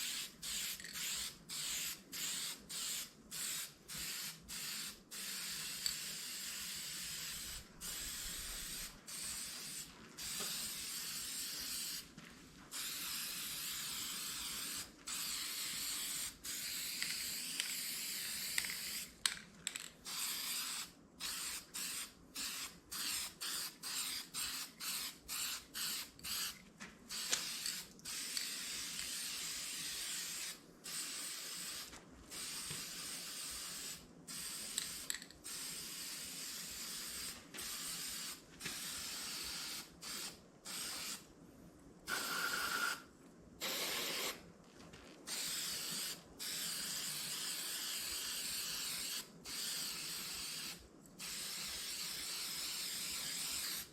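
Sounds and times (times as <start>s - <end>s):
spray paint can hissing: 0.0s - 12.1s, 12.7s - 19.2s, 20.0s - 41.2s, 42.1s - 43.0s, 43.6s - 44.4s, 45.3s - 53.9s.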